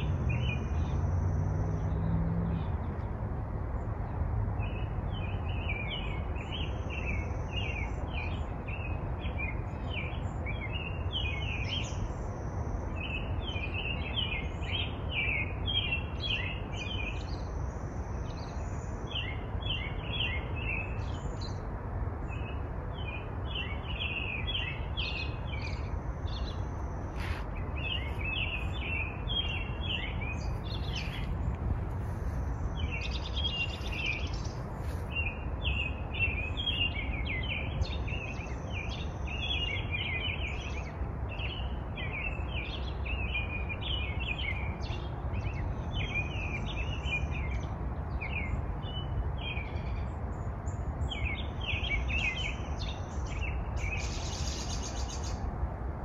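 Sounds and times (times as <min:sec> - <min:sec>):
birds singing: 0:00.0 - 0:02.8, 0:04.6 - 0:55.5.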